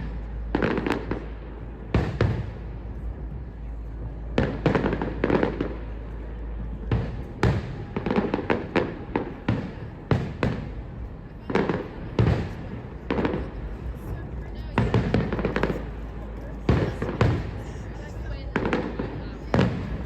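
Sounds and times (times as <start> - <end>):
fireworks bangs: 0.0 - 3.2, 4.3 - 13.7, 14.4 - 20.0
rumbling echo: 0.0 - 20.0.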